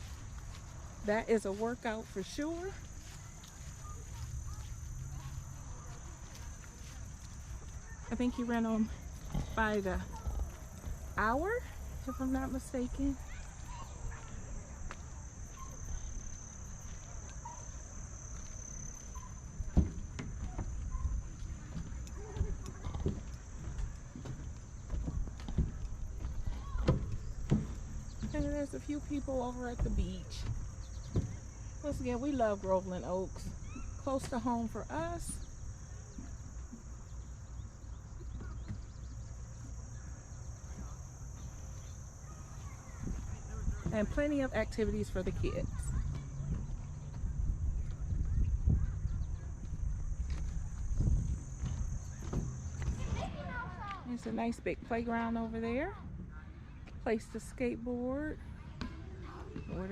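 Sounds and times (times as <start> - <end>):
crickets trilling: 0.0 - 59.9
insects droning: 0.0 - 59.9
low outdoor rumble: 0.0 - 59.9.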